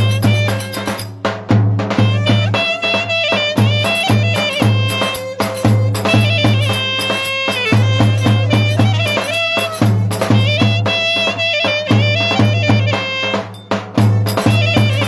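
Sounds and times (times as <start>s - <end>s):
folk band melody with trills: 0.0s - 15.0s
low drum beat: 0.0s - 15.0s.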